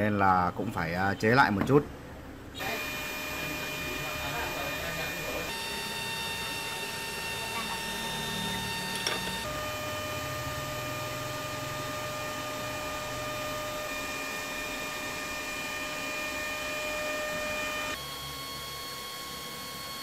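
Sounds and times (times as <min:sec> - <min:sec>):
electrical whine and hum: 0:00.0 - 0:20.0.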